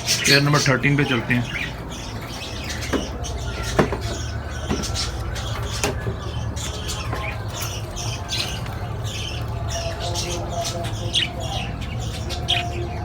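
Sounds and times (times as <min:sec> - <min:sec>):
parrots chirping and squawking: 0:00.0 - 0:13.0.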